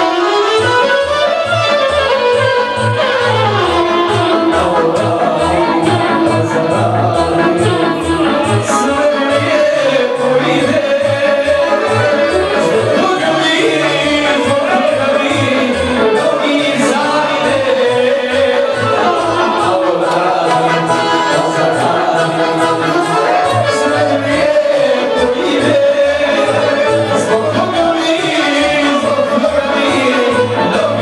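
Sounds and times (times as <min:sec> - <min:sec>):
pulsing bass line: 0:01.5 - 0:31.0
person singing: 0:02.2 - 0:31.0.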